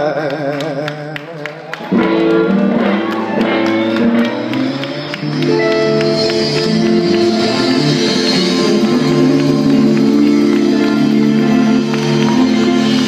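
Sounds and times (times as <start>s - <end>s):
blues band playing: 1.8s - 13.0s.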